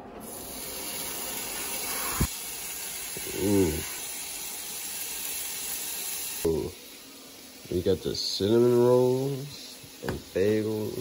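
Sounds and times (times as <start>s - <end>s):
bacon sizzling in a frying pan: 0.2s - 11.0s.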